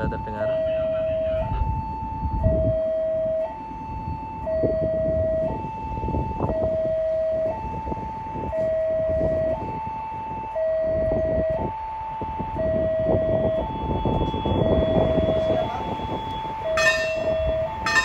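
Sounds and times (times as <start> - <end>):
low train rumble: 0.0 - 18.0
two-tone level crossing alarm: 0.0 - 18.0.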